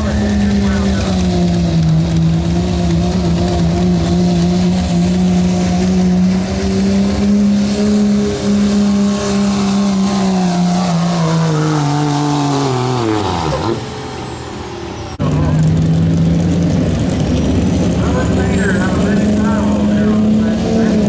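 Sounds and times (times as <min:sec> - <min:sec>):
diesel truck engine at high revs: 0:00.0 - 0:21.0.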